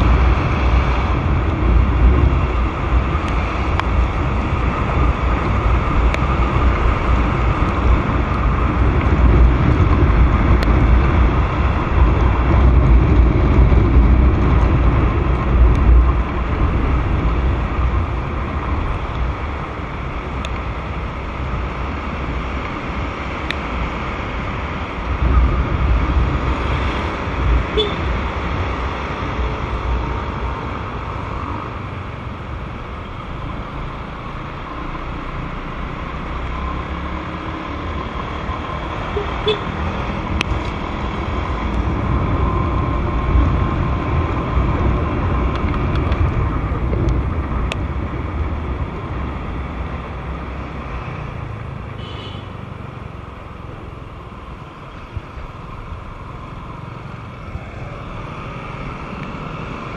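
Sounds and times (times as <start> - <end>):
passing traffic: 0.0 - 59.9
tyre noise on wet road: 0.0 - 59.9.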